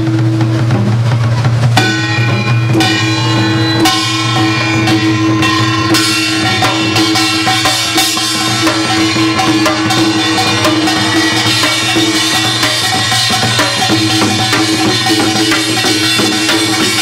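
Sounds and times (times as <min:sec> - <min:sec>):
barrel drum beats: 0:00.0 - 0:17.0
large gong ringing: 0:01.7 - 0:17.0
small gong metallic clangs: 0:01.7 - 0:17.0.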